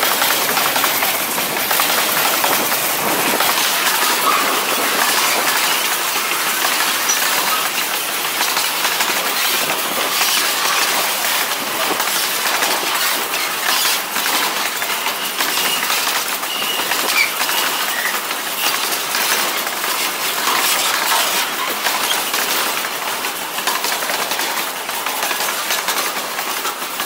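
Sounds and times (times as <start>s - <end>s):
steel wheels rushing on rails: 0.0s - 27.0s
wheels clicking over track joints: 0.0s - 27.0s.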